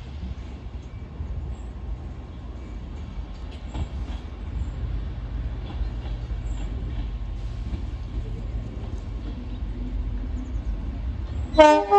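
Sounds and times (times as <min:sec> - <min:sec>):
diesel locomotive engine rumble: 0:00.0 - 0:11.9.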